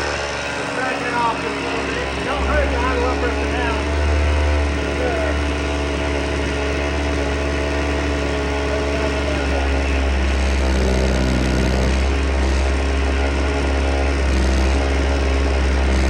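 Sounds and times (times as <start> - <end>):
chainsaw engine idling: 0.0 - 16.0.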